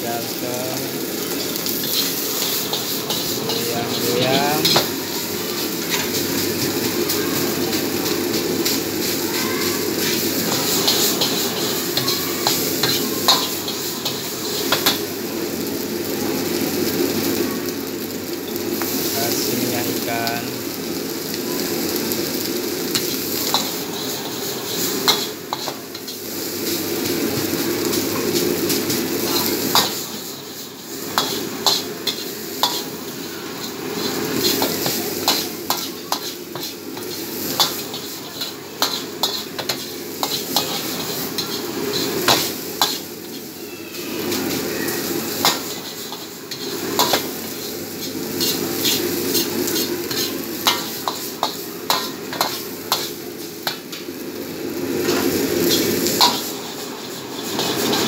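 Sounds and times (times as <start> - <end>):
fried rice sizzling in a wok: 0.0 - 58.0.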